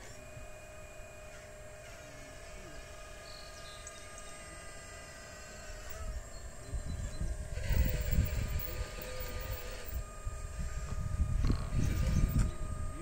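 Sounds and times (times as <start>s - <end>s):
model excavator electric whine: 0.0s - 13.0s.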